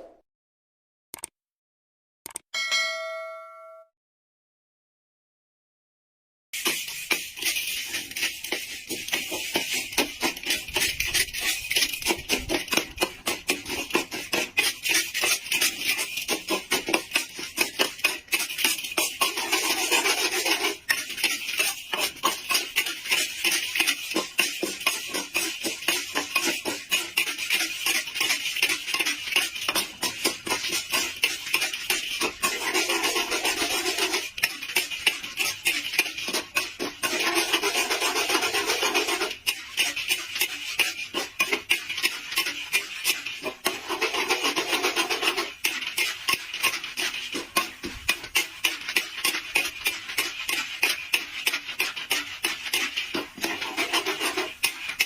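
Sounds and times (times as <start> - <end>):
utensil scraping food in pan: 6.6 - 55.0.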